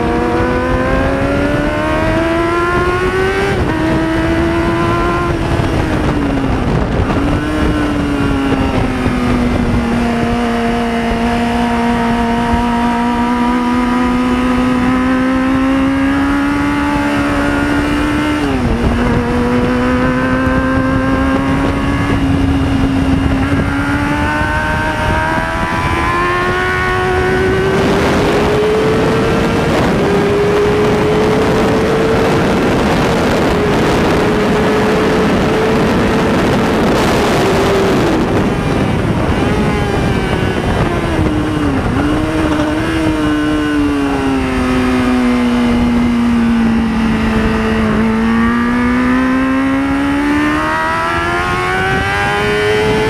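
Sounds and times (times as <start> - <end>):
motorcycle engine revving: 0.0 - 53.0
wind rush: 0.0 - 53.0.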